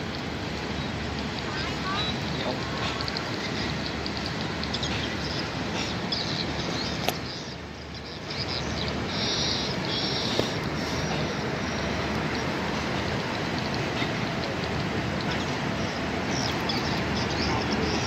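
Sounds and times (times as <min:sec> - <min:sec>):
diesel locomotive rumbling: 0:00.0 - 0:18.0
birds chirping: 0:00.7 - 0:18.0.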